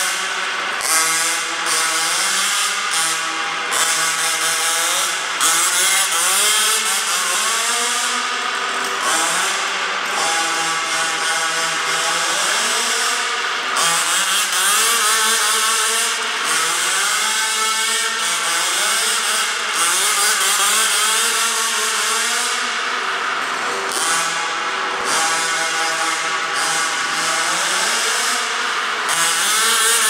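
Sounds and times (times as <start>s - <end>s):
rc car two-stroke engine revving: 0.0s - 30.0s.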